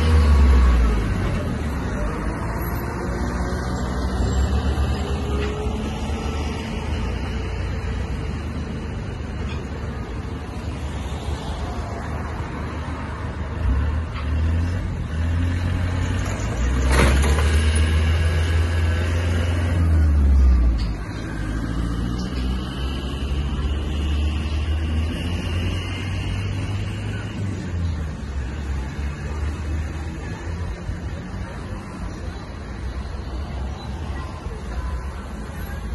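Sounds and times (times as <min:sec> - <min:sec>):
low rumble of road traffic: 0:00.0 - 0:35.9.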